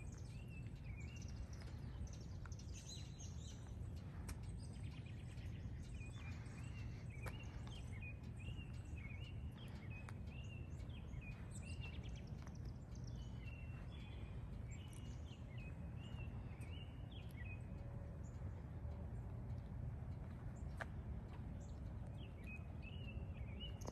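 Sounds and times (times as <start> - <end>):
low background rumble: 0.0 - 23.9
songbird chirping: 0.0 - 23.9.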